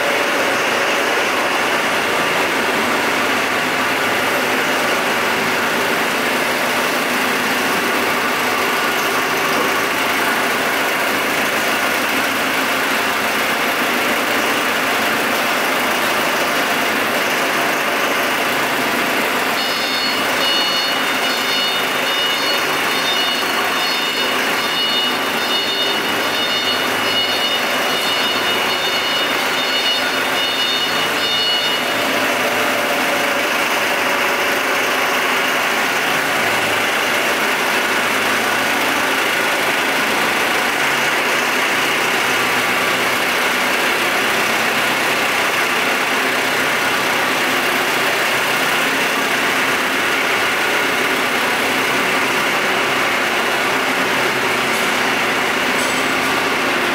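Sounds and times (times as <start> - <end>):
forklift engine running: 0.0 - 56.9.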